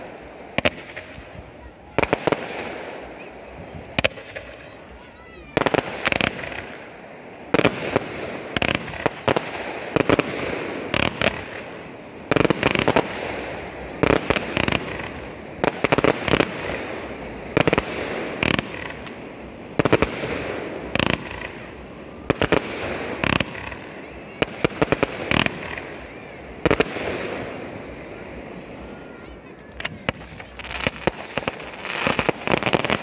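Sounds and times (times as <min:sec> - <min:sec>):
continuous hiss: 0:00.0 - 0:33.0
fireworks bursting with sharp bangs: 0:00.0 - 0:33.0.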